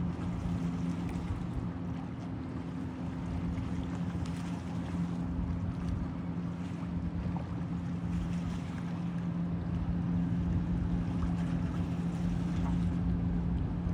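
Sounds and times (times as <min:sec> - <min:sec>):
ship engine humming: 0:00.0 - 0:13.9.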